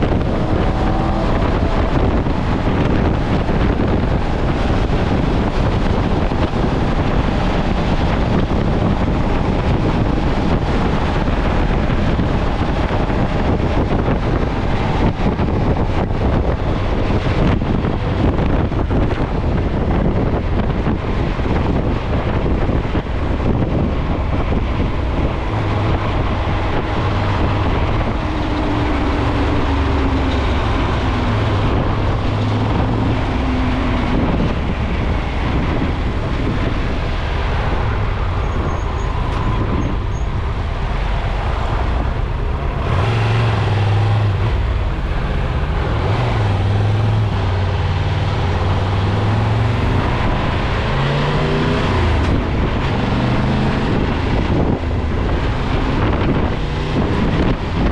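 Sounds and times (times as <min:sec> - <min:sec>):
vehicle engine running: 0:00.0 - 0:57.9
wind rushing over microphone: 0:00.0 - 0:57.9.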